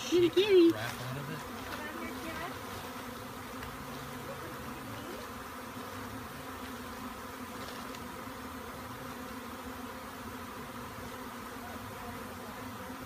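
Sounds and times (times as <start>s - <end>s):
swarm of bees buzzing: 0.0s - 13.0s.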